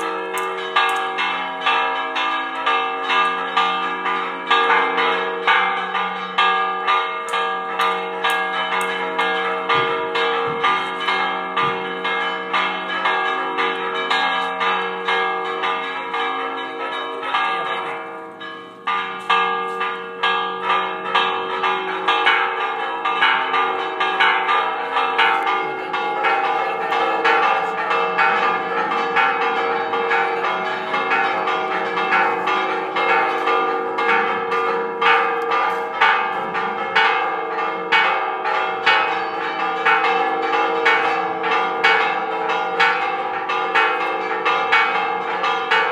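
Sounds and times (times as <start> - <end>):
church bells pealing: 0.0 - 45.9.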